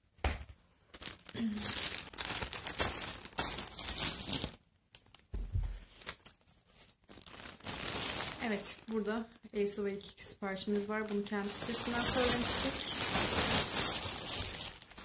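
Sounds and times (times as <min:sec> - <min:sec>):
plastic bag crinkling and tearing: 0:00.9 - 0:05.3, 0:05.9 - 0:15.0.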